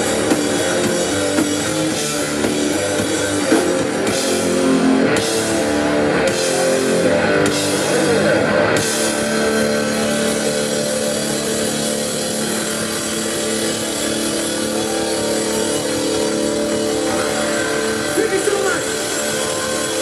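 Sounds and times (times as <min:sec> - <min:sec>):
distorted electric guitar chord: 0:00.0 - 0:20.0.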